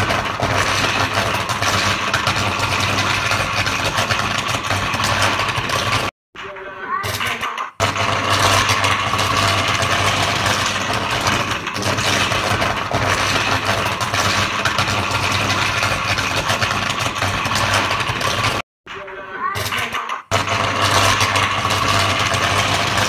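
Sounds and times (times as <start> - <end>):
generator engine droning: 0.0 - 6.1, 7.8 - 18.6, 20.3 - 23.0.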